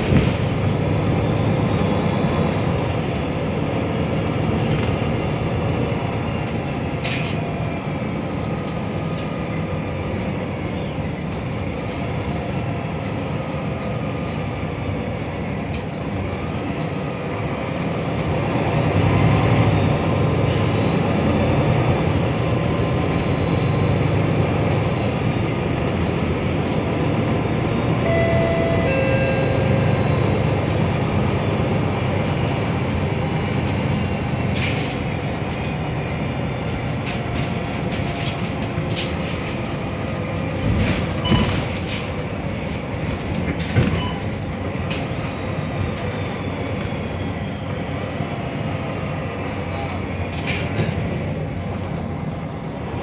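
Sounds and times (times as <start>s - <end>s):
bus engine and road rumble: 0.0s - 53.0s.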